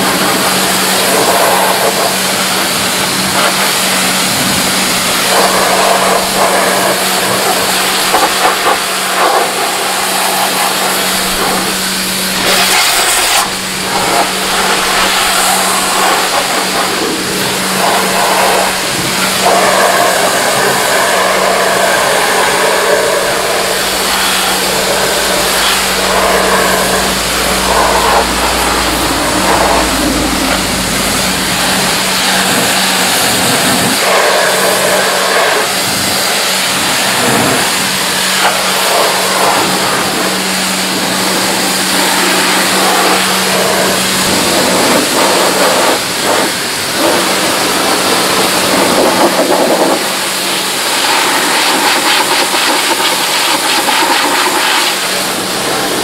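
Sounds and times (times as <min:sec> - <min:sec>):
pressure washer humming: 0:00.0 - 0:56.0
water jet hissing on car: 0:00.0 - 0:56.0.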